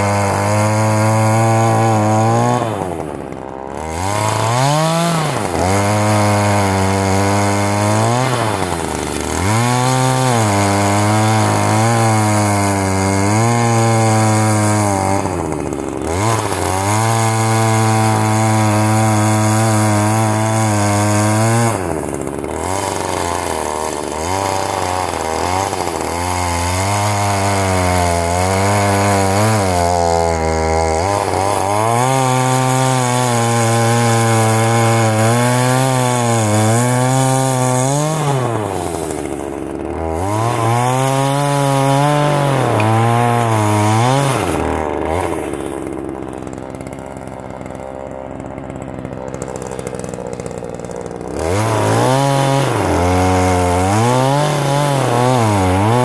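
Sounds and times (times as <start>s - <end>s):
electric chainsaw cutting wood: 0.0s - 56.0s.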